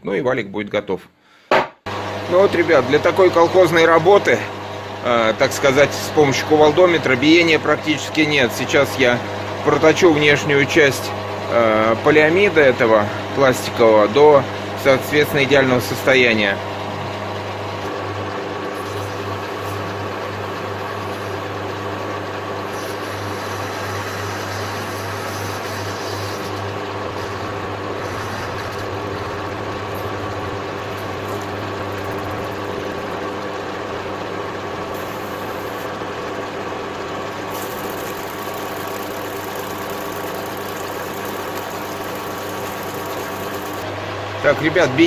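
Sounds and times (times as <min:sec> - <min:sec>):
lathe motor and gear hum: 0:01.9 - 0:45.0.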